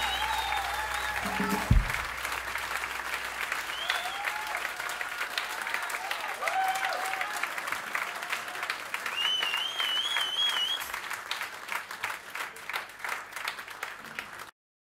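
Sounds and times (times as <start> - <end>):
audience applauding and cheering: 0.0 - 14.5.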